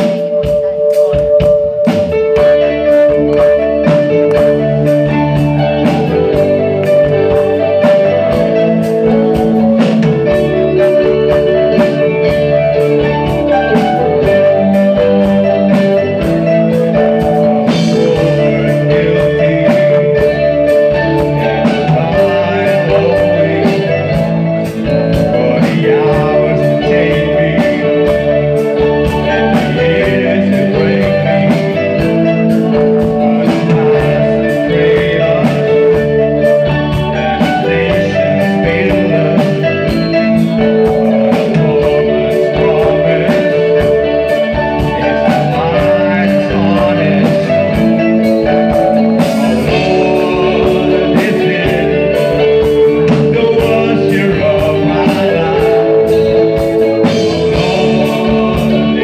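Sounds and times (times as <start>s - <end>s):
live rock band playing: 0.0s - 59.0s
man singing into microphone: 2.4s - 59.0s.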